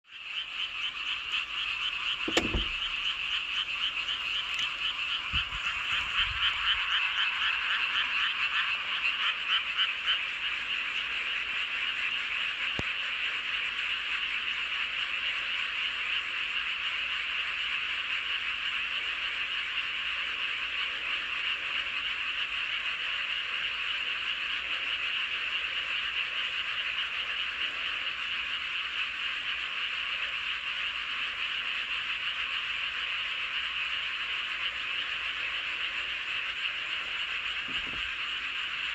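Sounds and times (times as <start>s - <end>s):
chorus of frogs croaking: 0.1s - 38.9s.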